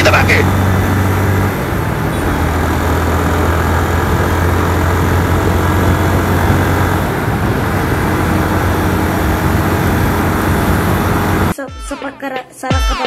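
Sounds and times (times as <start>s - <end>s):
motorcycle engine hum: 0.0s - 11.6s
wind and road noise: 0.0s - 11.6s.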